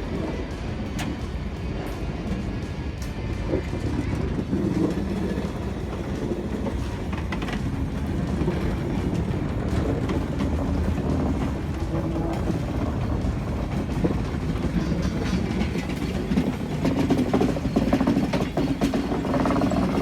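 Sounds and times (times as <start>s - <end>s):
train rumbling on track: 0.0s - 20.0s
wheels clicking over rails: 0.0s - 20.0s.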